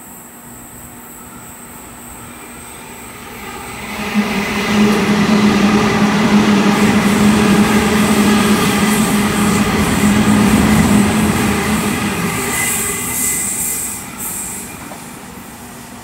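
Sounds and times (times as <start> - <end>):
electric train passing: 0.5 - 16.0.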